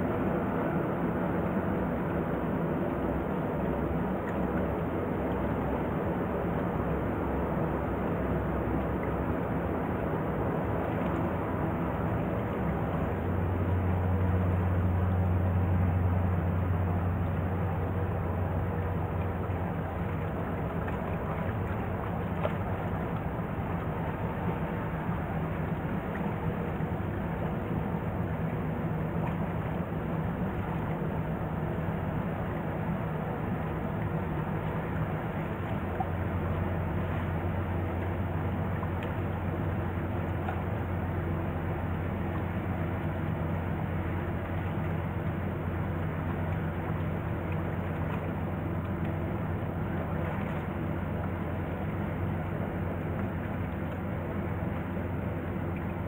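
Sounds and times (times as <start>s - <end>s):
ferry diesel engines droning: 0.0s - 56.0s.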